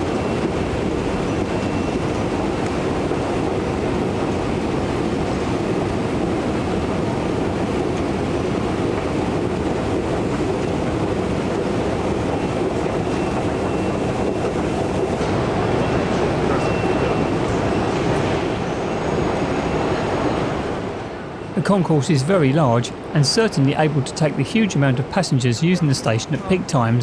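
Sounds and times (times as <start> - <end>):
train noise: 0.0 - 27.0
underground station rumble: 0.0 - 27.0.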